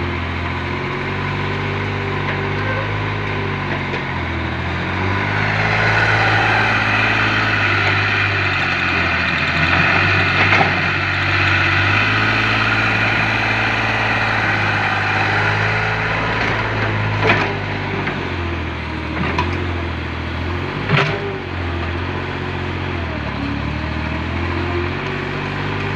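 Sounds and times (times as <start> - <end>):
engine running steadily: 0.0 - 25.9.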